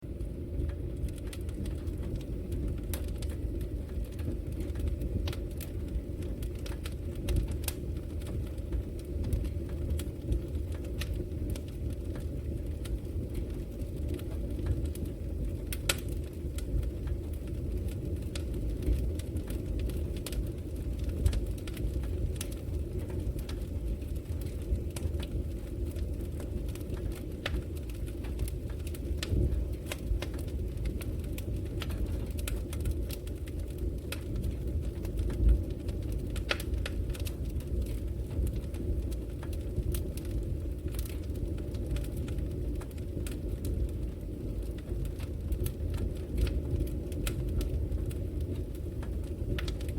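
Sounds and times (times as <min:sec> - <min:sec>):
low rush of burning fire: 0:00.0 - 0:49.9.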